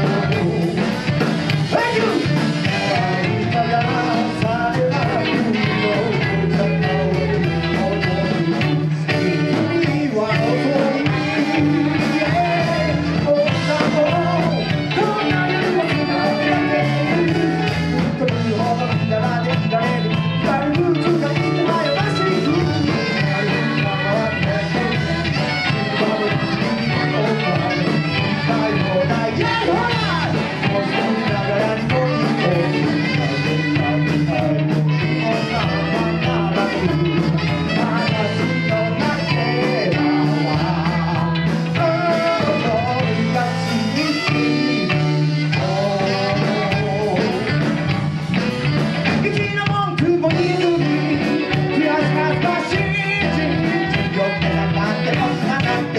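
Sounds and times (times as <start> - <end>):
live rock and roll band: 0.0 - 55.9
person singing: 0.0 - 55.9.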